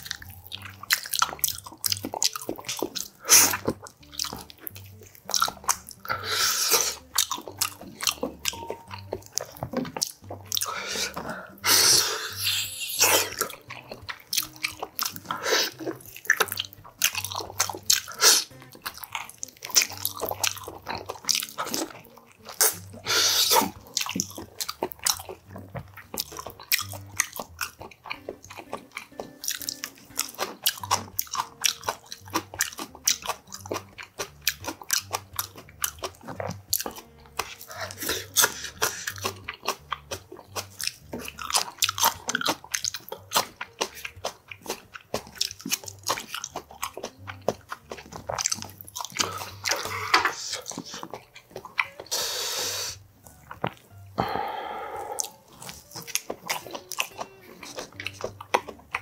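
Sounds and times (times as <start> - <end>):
man chewing and biting food: 0.0 - 59.0
mouth clicks: 0.0 - 59.0.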